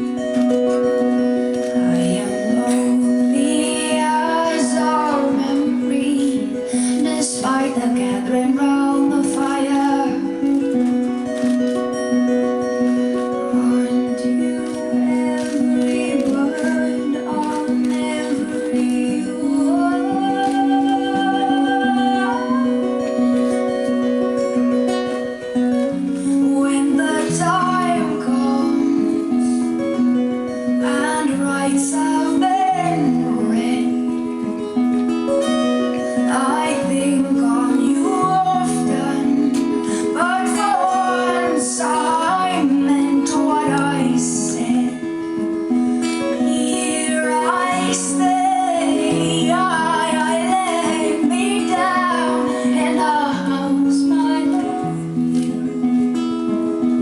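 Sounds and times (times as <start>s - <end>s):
woman singing slow song: 0.0s - 11.3s, 12.6s - 24.8s, 25.9s - 56.5s
acoustic guitar: 0.0s - 57.0s.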